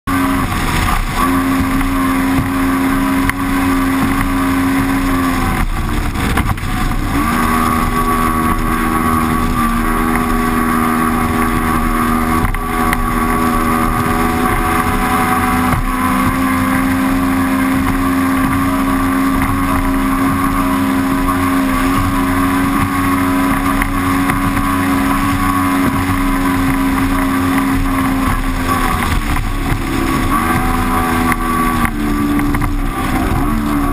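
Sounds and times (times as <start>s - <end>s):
outboard engine running hard: 0.0s - 33.9s
wind and spray rushing: 0.1s - 33.9s.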